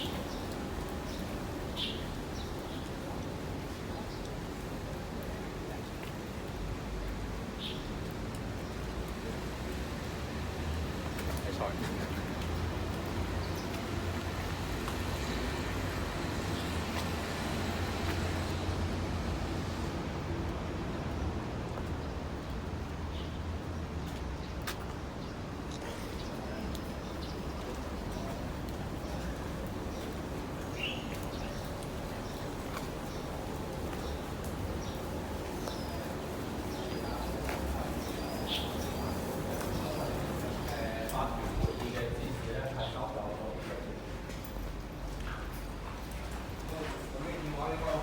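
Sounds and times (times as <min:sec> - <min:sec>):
low urban hum: 0:00.0 - 0:48.0.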